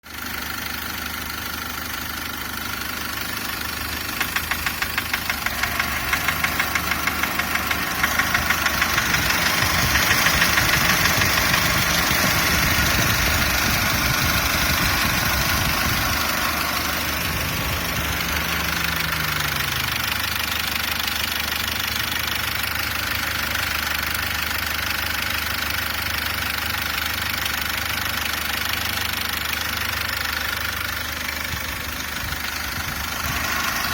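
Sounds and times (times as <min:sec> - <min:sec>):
diesel engine knocking: 0:00.1 - 0:33.9.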